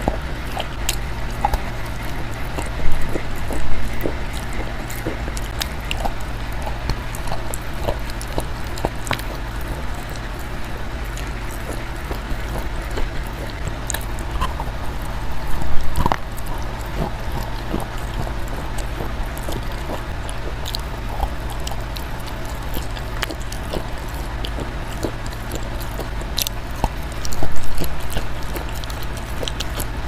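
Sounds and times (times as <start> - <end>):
chewing crunches: 0.0 - 30.0
steady low hum: 0.0 - 30.0
wet mouth clicks: 0.0 - 30.0.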